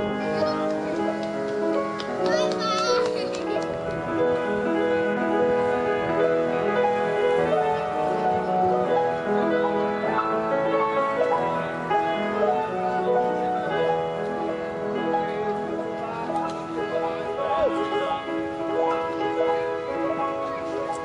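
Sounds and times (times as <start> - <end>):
piano instrumental music: 0.0 - 21.0.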